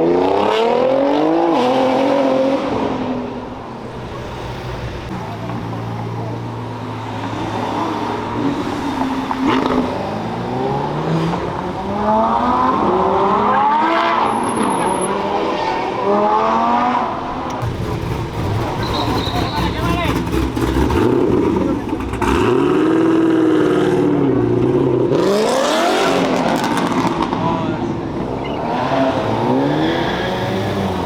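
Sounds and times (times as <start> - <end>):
car engines accelerating hard: 0.0 - 31.0.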